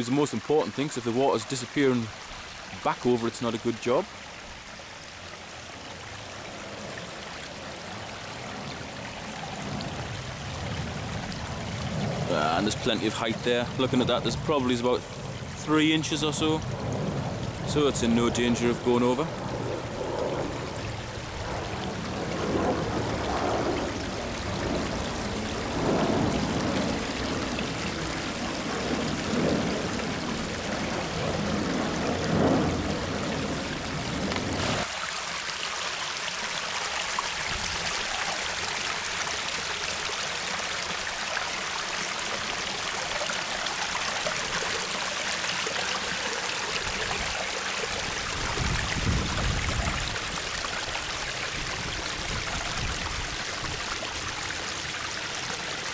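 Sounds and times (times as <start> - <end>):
water trickling and splashing: 0.0 - 55.9.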